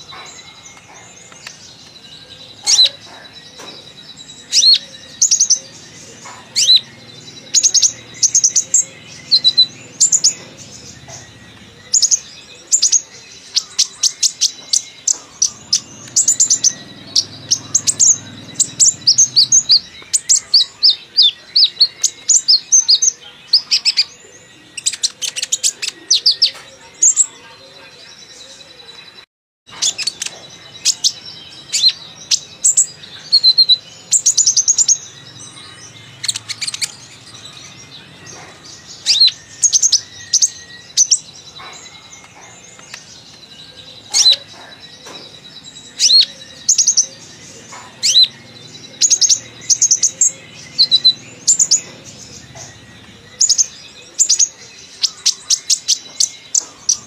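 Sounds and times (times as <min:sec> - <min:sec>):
bird chirping and trilling: 0:00.0 - 0:57.0.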